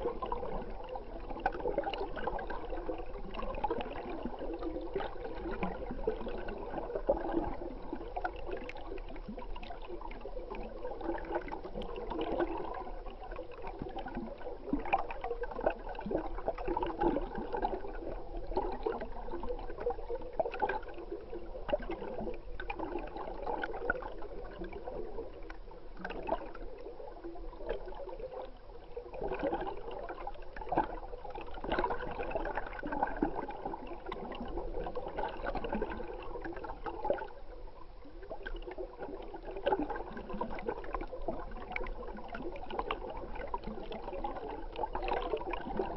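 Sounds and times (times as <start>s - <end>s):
muffled stream water gurgling: 0.0s - 45.9s.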